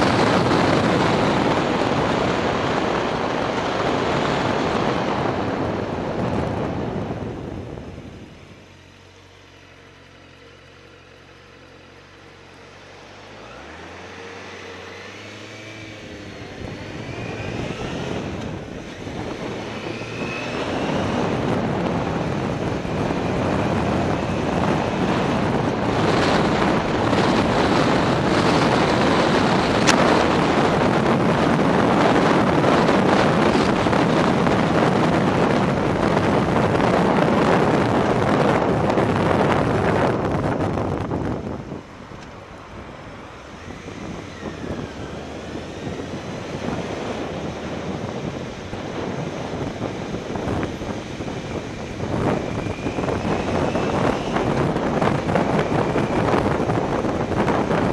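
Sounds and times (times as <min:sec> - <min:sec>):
wind noise on microphone: 0:00.0 - 0:09.2, 0:12.4 - 0:57.9
motorcycle engine idling and revving: 0:00.0 - 0:57.9.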